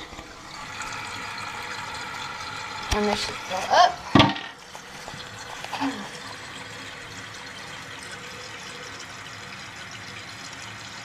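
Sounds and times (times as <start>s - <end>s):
water rushing into toilet tank: 0.0s - 11.0s.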